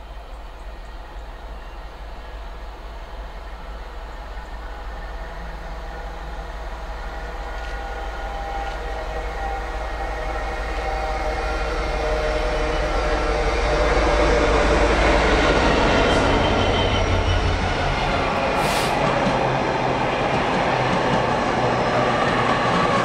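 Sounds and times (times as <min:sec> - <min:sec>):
train approaching: 0:00.0 - 0:23.0.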